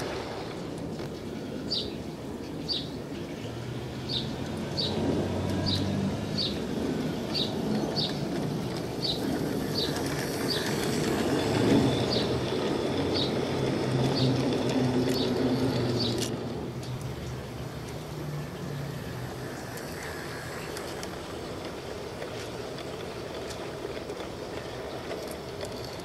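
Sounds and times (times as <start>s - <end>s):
model train wheels rolling: 0.0s - 1.9s, 3.6s - 26.0s
electric motor hum: 3.7s - 26.0s.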